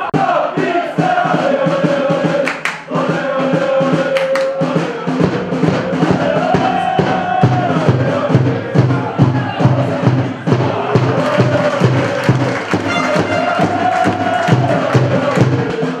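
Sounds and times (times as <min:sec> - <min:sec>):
evenly spaced drumbeat: 0:00.0 - 0:16.0
football supporters chanting: 0:00.0 - 0:16.0.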